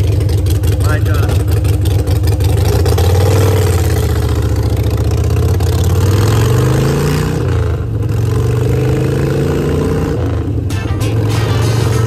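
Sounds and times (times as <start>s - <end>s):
loud motorcycle engine: 0.0s - 12.0s.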